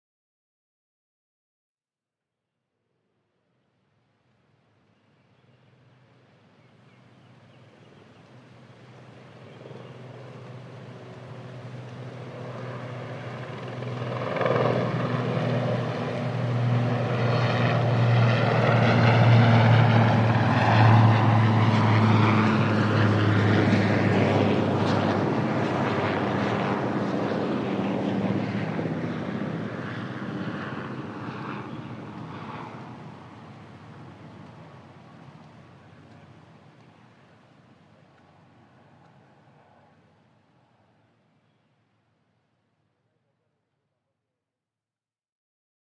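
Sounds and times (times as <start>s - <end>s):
helicopter drone: 4.3s - 43.4s.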